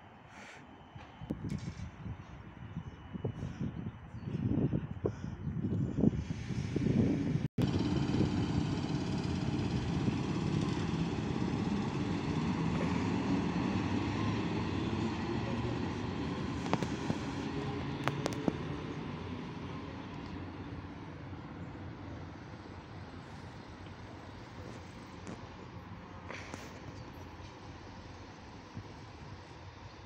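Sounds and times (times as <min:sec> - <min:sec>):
faint multi-tone whine: 0:00.0 - 0:05.0, 0:07.6 - 0:30.0
train low rumble: 0:00.0 - 0:30.0.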